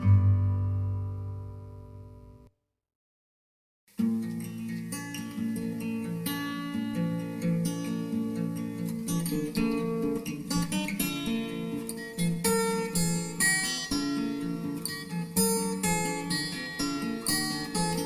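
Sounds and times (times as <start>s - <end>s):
acoustic guitar music: 0.0s - 2.5s, 4.0s - 18.0s.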